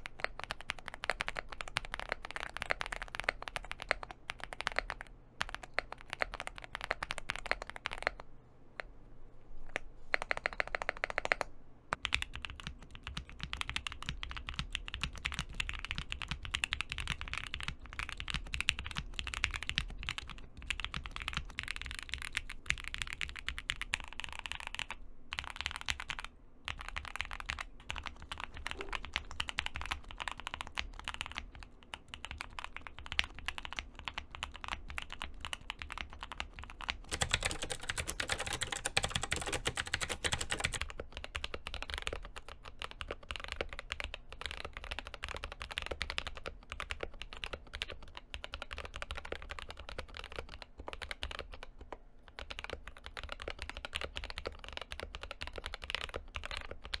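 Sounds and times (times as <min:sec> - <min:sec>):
typing on mechanical keyboard: 0:00.0 - 0:08.3, 0:09.7 - 0:57.0.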